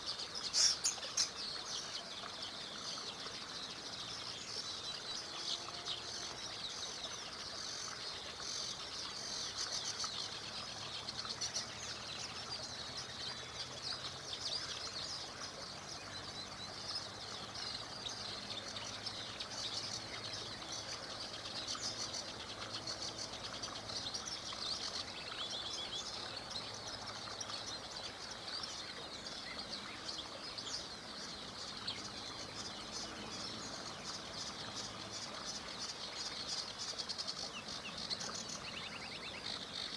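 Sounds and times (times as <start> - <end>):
faint steady hiss: 0.0 - 39.9
songbirds chirping and singing: 0.0 - 39.9.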